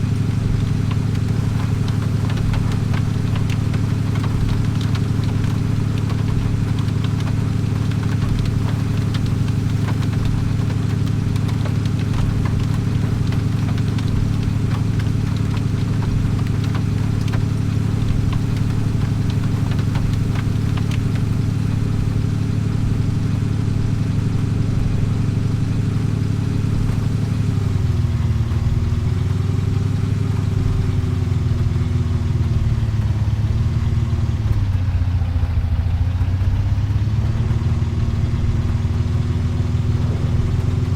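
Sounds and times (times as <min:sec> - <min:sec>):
vehicle engine humming: 0:00.0 - 0:40.9.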